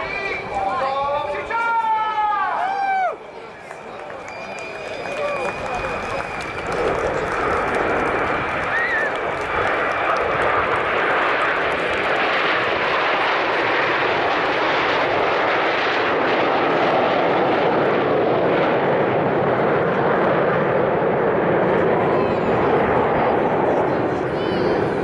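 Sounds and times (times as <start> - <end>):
jet engine noise: 0.0 - 25.0.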